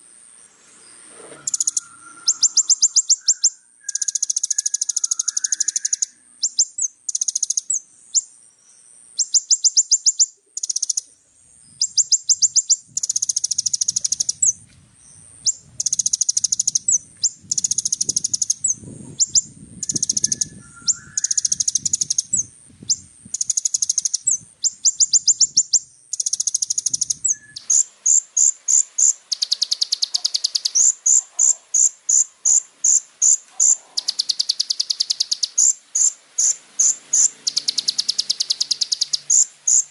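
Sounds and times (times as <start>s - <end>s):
sunbird singing high trills: 0.0s - 39.9s
bird pulsed notes: 1.4s - 8.4s, 11.7s - 31.0s, 34.0s - 39.9s.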